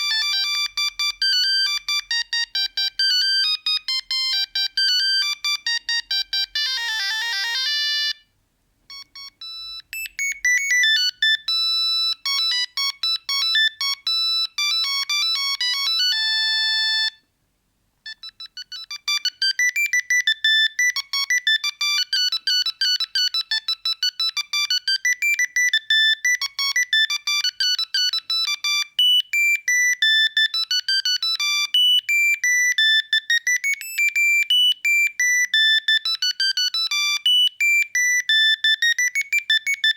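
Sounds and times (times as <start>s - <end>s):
phone ringtone beeping melody: 0.0s - 8.3s, 8.9s - 17.2s, 18.1s - 39.9s.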